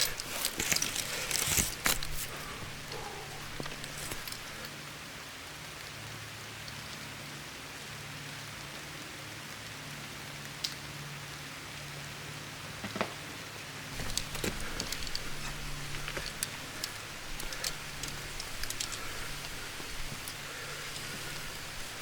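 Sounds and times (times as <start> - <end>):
rain falling: 0.0 - 12.8, 13.4 - 22.0.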